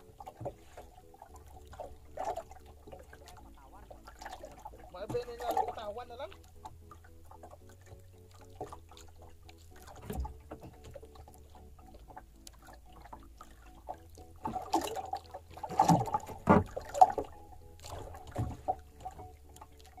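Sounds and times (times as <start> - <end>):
knocks and splashes: 0.0 - 20.0
water sloshing against boat hull: 0.0 - 20.0.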